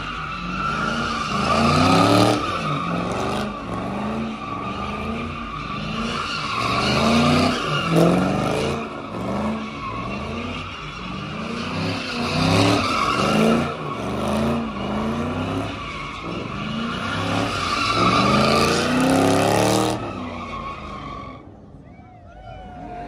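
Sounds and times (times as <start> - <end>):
tyres screeching: 0.0 - 21.5.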